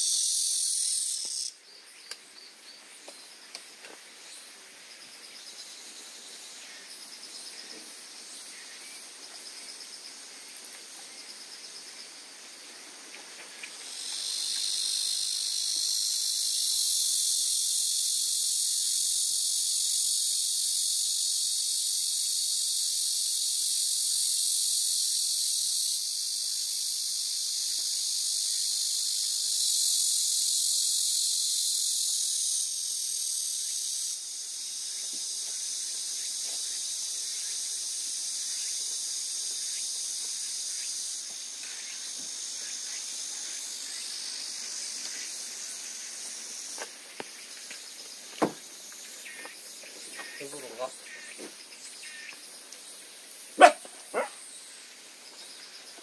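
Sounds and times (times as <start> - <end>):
insects shrilling: 0.0 - 56.0.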